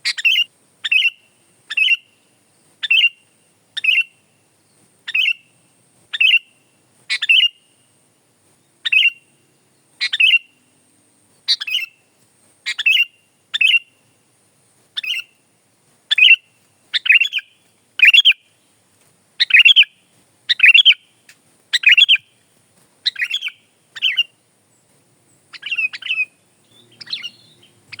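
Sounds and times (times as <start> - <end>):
bird chirping song: 0.0 - 14.3, 15.0 - 15.4, 16.1 - 28.0.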